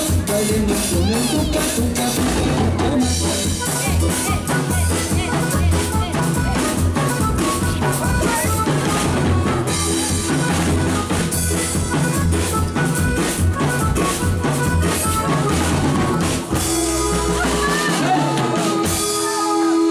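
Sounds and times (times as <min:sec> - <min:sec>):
bass: 0:00.0 - 0:19.9
drum kit beat: 0:00.0 - 0:19.9
keyboard: 0:00.0 - 0:19.9.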